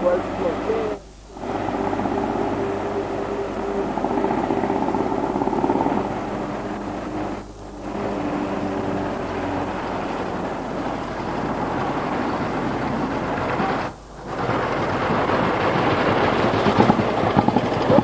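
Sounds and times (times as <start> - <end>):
car engine running: 0.0 - 18.0
motorcycle engines running: 0.0 - 18.0.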